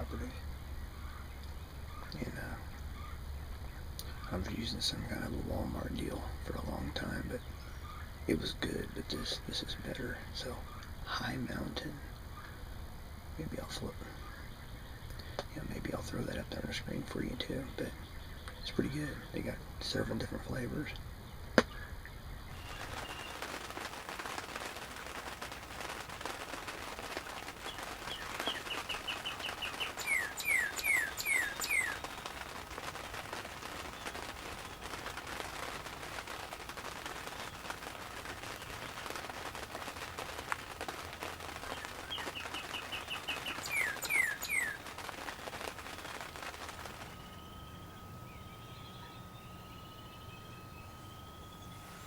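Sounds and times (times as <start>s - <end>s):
songbird singing: 0.0s - 12.6s, 13.4s - 52.0s
rain hiss with light ticking: 0.0s - 52.0s.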